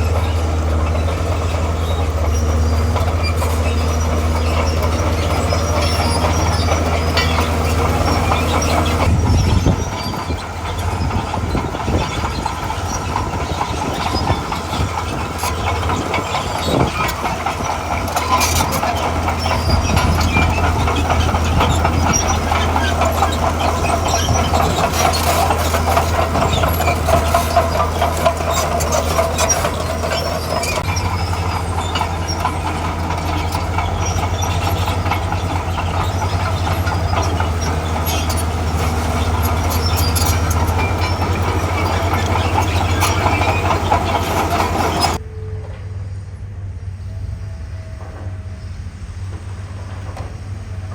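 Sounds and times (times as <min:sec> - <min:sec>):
diesel engine running under load: 0:00.0 - 0:50.9
steel tracks clattering: 0:00.0 - 0:50.9.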